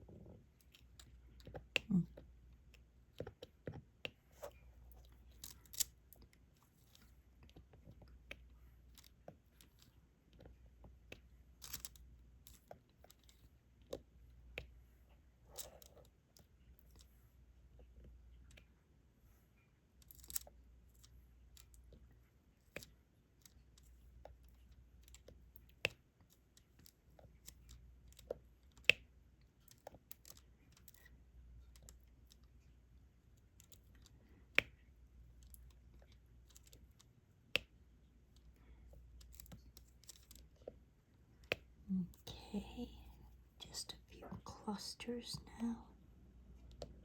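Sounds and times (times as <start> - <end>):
faint low hum: 0.0 - 47.0.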